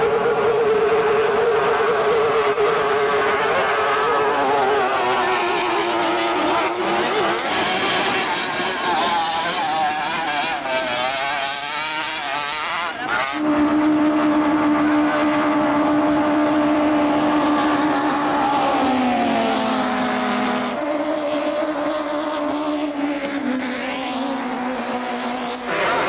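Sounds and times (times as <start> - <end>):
boat engines running flat out: 0.0 - 26.0.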